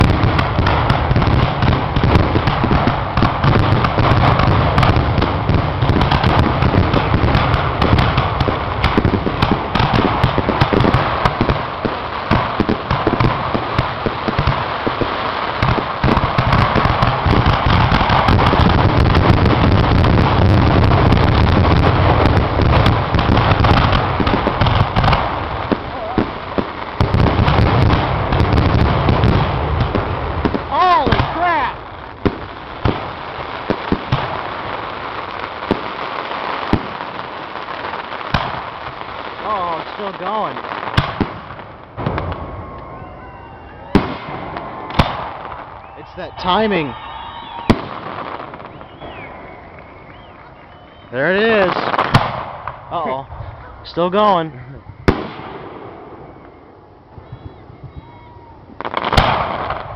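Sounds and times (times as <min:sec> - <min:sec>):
fireworks bursts and booms: 0:00.0 - 0:59.9
fireworks crackle: 0:00.0 - 0:59.9.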